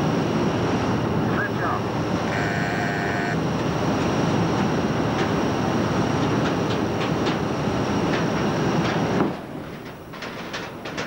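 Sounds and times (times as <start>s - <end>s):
ship machinery rumble: 0.0s - 11.0s.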